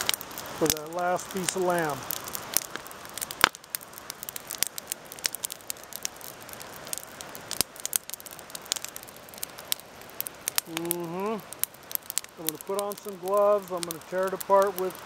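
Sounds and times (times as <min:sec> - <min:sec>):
campfire crackling: 0:00.0 - 0:15.0
sharp pops from burning logs: 0:00.0 - 0:15.0.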